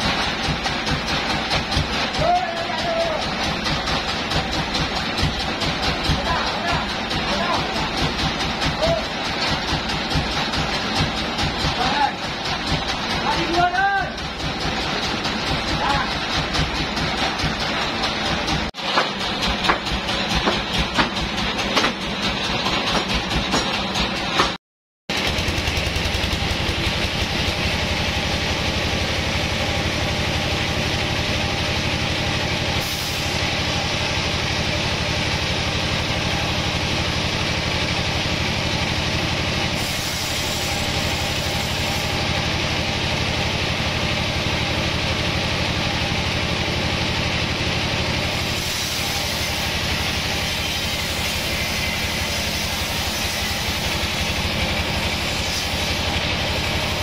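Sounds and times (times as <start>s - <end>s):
band saw cutting log: 0.0s - 46.2s, 47.8s - 57.0s.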